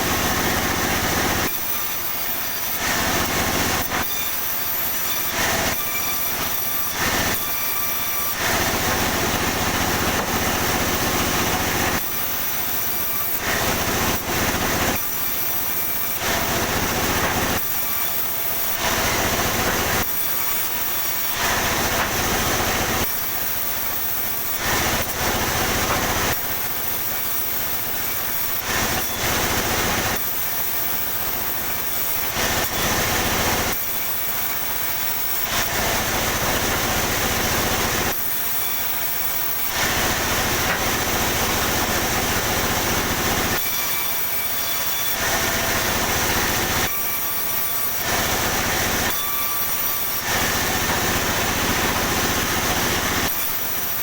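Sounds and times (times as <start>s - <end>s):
saw cutting wood: 0.0s - 54.0s.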